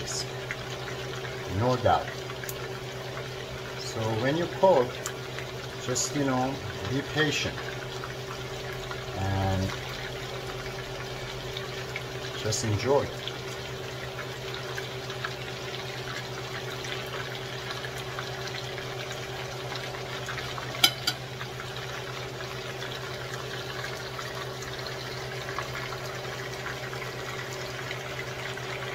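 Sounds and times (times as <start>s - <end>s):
fish sizzling in hot oil: 0.0s - 28.9s.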